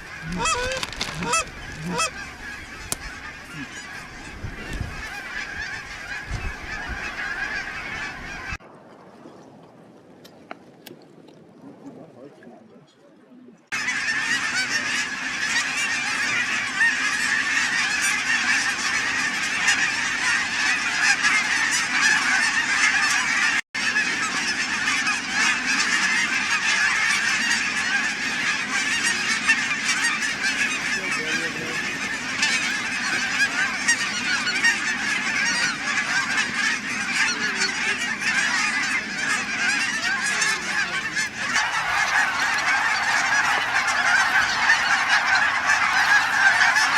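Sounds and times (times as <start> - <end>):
geese honking: 0.0 - 8.6, 13.7 - 46.9.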